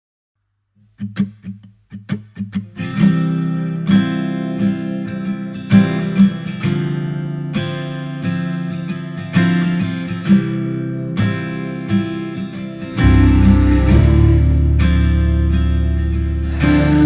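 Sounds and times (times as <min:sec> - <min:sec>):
acoustic guitar playing: 0:00.8 - 0:17.0.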